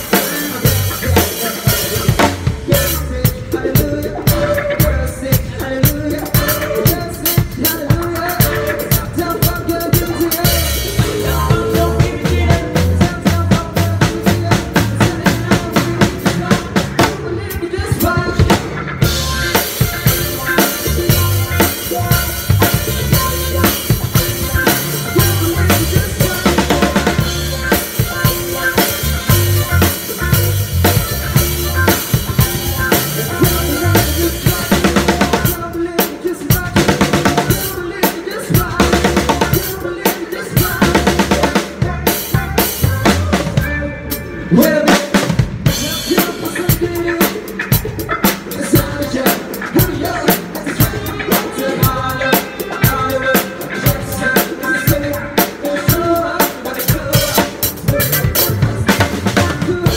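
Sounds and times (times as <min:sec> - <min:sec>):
band music with bass line: 0:00.0 - 0:59.9
drum kit groove: 0:00.0 - 0:59.9.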